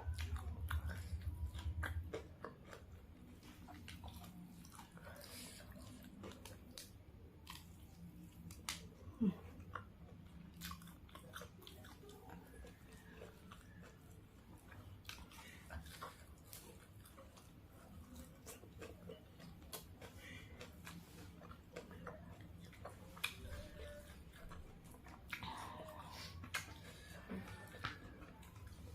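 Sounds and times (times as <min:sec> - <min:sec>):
person chewing crunchy food: 0:00.0 - 0:28.9.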